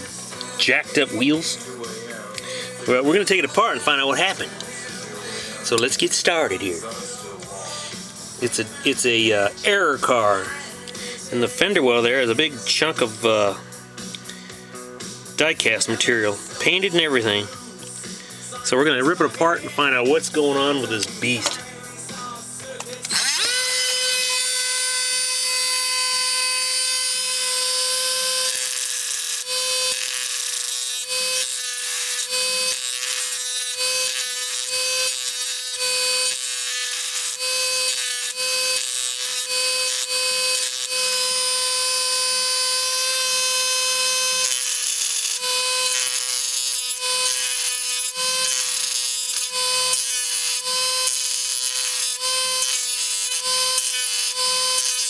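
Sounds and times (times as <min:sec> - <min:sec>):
drill bit grinding metal: 0:00.0 - 0:55.0
electric drill whining: 0:00.0 - 0:55.0.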